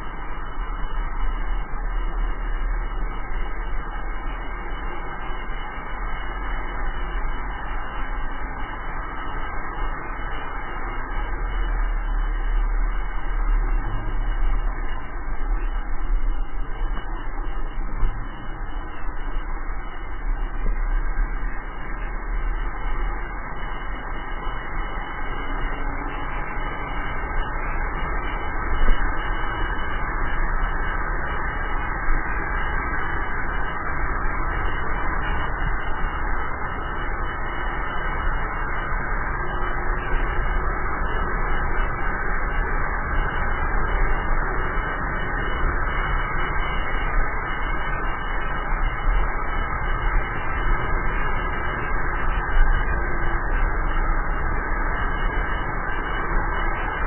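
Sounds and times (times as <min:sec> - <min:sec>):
road noise of wheels on asphalt: 0:00.0 - 0:57.0.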